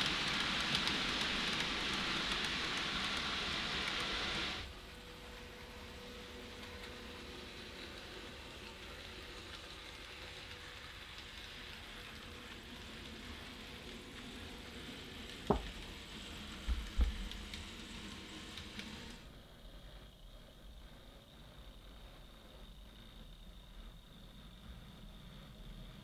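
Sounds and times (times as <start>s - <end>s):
model train running: 0.0s - 26.0s.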